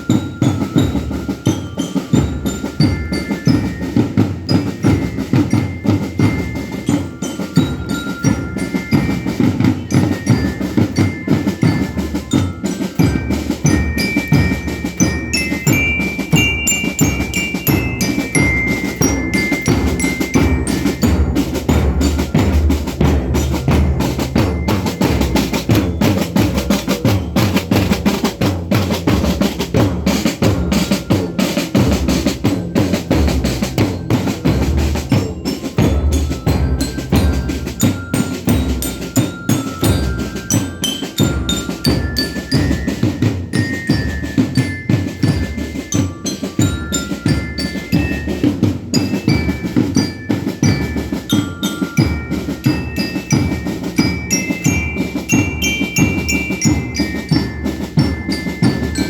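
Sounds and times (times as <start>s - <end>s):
bell lyre melody: 0.0s - 59.0s
snare and bass drums: 0.0s - 59.0s.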